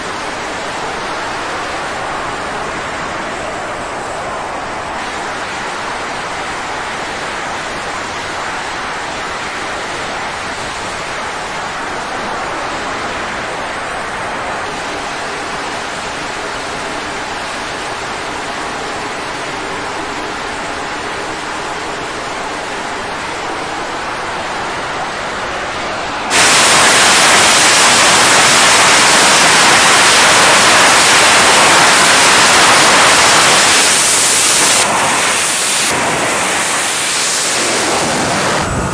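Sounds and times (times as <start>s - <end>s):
jet engines rushing: 0.0s - 38.9s.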